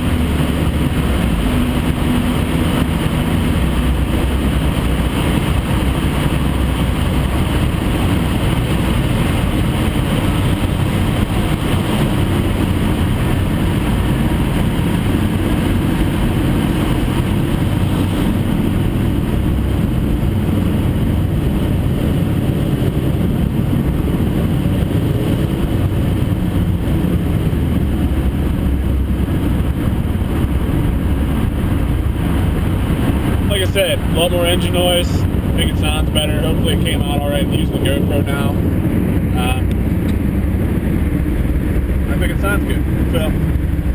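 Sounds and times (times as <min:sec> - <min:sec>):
car engine and exhaust running: 0:00.0 - 0:43.9.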